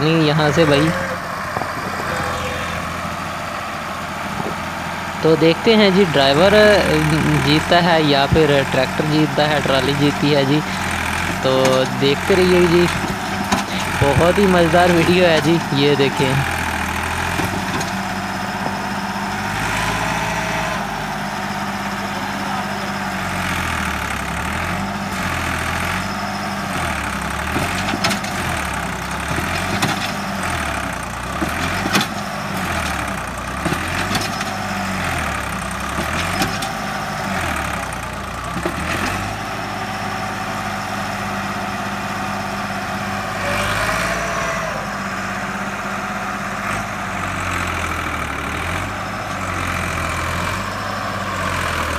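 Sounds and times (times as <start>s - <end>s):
tractor diesel engine straining: 0.0s - 51.9s.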